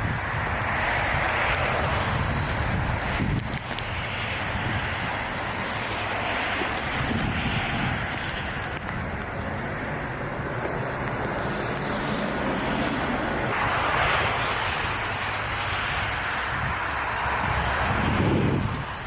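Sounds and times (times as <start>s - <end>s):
gusty wind buffeting microphone: 0.0s - 19.0s.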